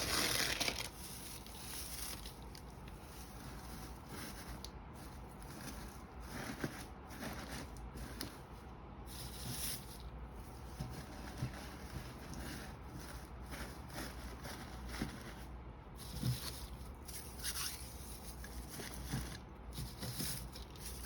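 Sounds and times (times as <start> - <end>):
paper shred rustling and crinkling: 0.0 - 8.3, 9.1 - 21.0.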